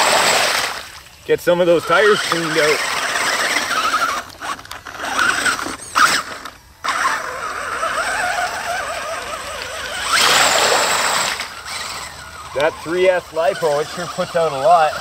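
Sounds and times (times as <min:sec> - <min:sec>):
tyres splashing through mud: 0:00.0 - 0:15.0
electric motor whining: 0:01.6 - 0:15.0.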